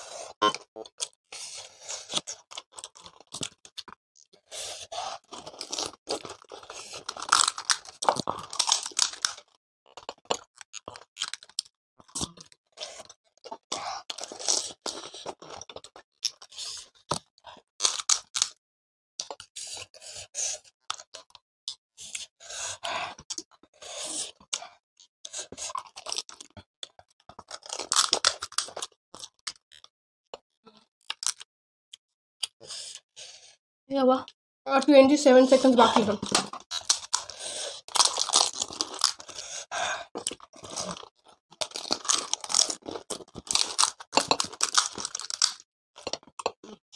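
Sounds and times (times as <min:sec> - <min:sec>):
crunching and chewing crisp snacks: 0:00.0 - 0:18.6, 0:19.2 - 0:31.5, 0:35.7 - 0:46.9.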